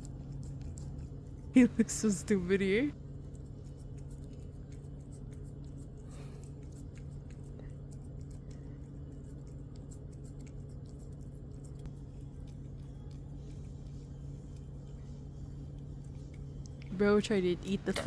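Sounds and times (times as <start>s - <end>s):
cat licking and gnawing: 0.0s - 18.0s
low electrical hum: 0.0s - 18.0s.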